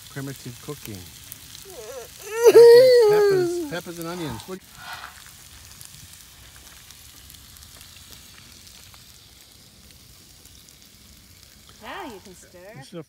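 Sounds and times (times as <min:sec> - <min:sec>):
peppers and onions sizzling in pan: 0:00.0 - 0:13.0.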